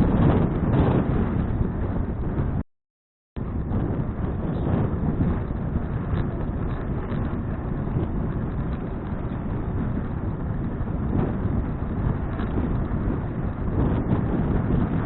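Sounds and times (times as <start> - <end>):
wind buffeting microphone: 0.0 - 2.6, 3.4 - 15.0.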